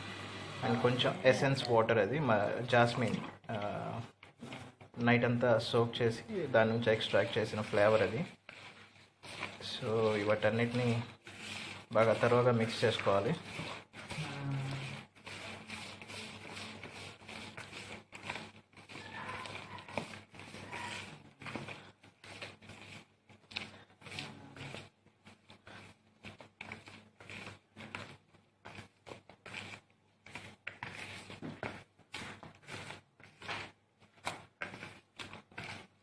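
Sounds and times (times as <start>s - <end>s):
hand mixing batter in plastic bowl: 0.0s - 36.0s.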